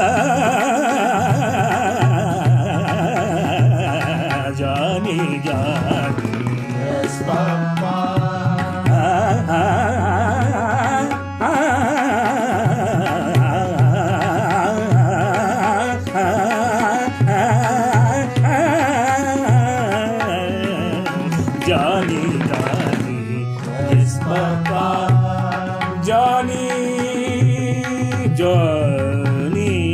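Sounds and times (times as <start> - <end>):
tabla: 0.0 - 29.9.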